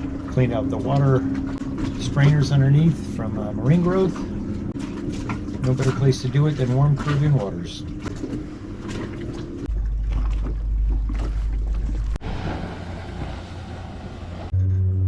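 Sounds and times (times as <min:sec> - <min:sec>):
sea and boat ambience: 0:00.0 - 0:15.0.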